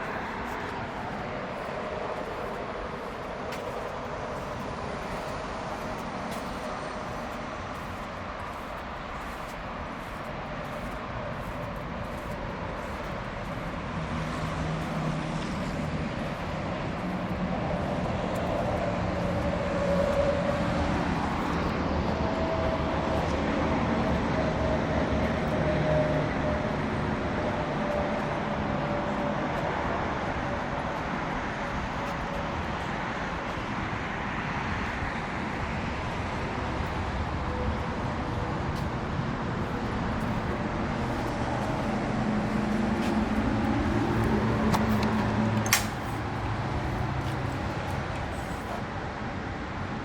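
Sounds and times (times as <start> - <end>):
vehicle running: 0.0 - 49.9
steady engine drone: 0.0 - 50.0.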